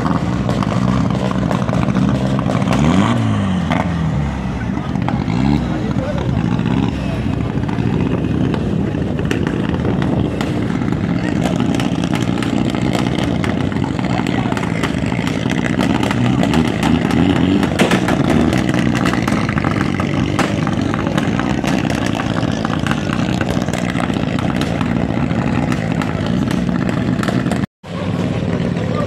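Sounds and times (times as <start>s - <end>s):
vehicle engines running: 0.0s - 29.0s.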